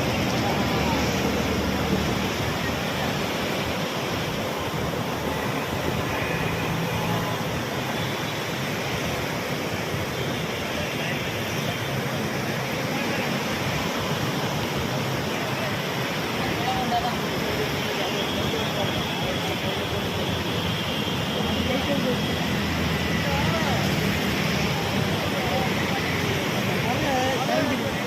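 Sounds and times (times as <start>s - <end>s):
river in flood rushing: 0.0s - 28.0s.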